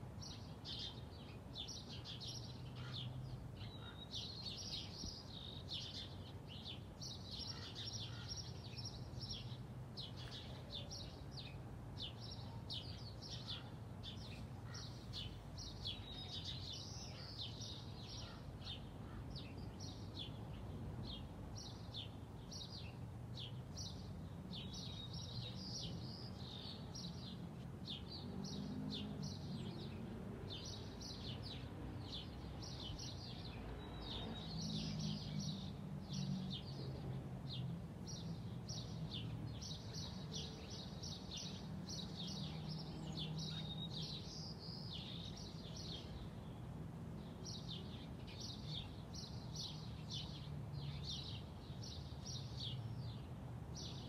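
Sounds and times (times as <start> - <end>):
distant traffic hum: 0.0 - 54.0
birds chirping: 0.2 - 36.8, 37.5 - 54.0.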